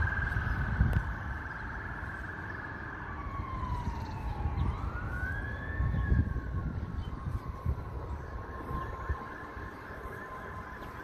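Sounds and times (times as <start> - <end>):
fire engine siren: 0.0 - 11.0.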